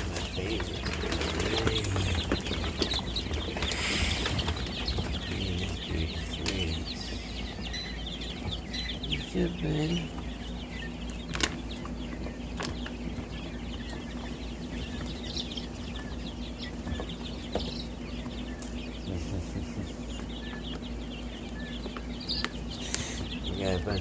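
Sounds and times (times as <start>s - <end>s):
wings fluttering: 0.0s - 20.6s
chicks peeping: 0.0s - 24.0s
steady low hum: 0.0s - 24.0s.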